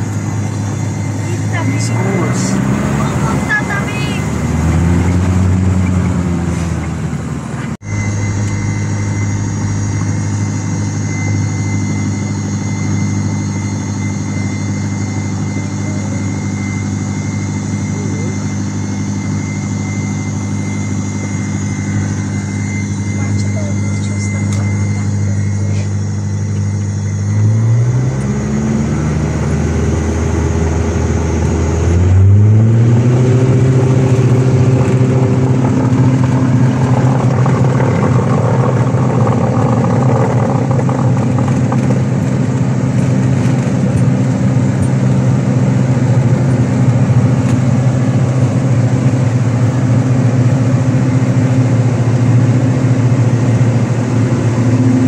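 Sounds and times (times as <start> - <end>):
light aircraft piston engine: 0.0 - 55.0.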